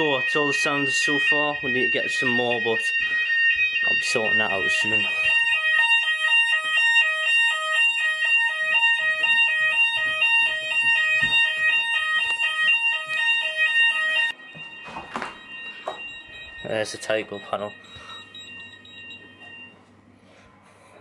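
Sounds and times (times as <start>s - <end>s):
fire alarm high tone: 0.0s - 19.8s
fire alarm two-tone sound: 0.0s - 19.8s.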